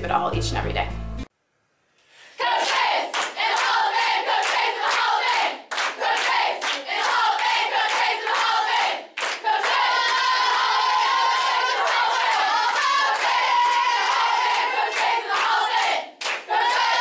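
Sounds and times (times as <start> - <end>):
women chanting a cheer: 2.4 - 17.0
rhythmic hand claps: 2.6 - 17.0.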